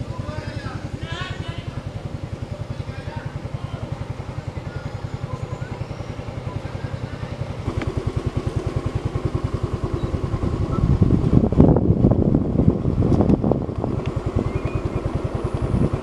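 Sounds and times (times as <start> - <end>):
motorcycle engine chugging: 0.0 - 16.0.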